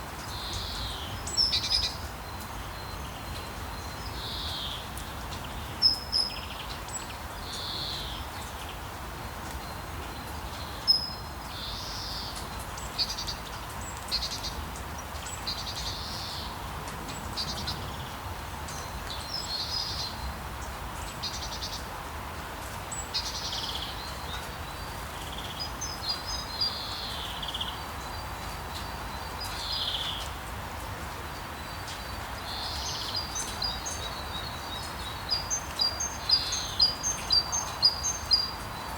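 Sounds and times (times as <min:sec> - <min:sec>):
songbirds calling: 0:00.0 - 0:38.9
steady rain: 0:00.0 - 0:38.9.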